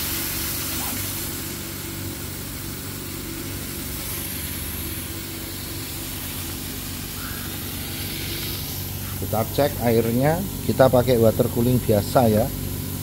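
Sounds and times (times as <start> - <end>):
constant hiss: 0.0 - 13.0
laser cutter humming: 0.0 - 13.0.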